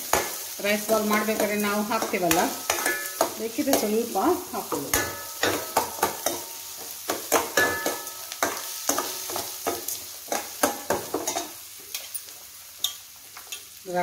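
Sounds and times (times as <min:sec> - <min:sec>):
light sizzle: 0:00.0 - 0:14.0
metal spoon scraping a pan: 0:00.1 - 0:13.7.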